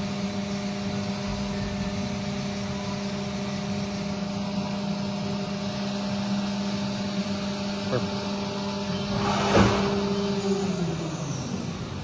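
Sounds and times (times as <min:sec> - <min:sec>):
machine spindle humming and hissing: 0:00.0 - 0:12.0.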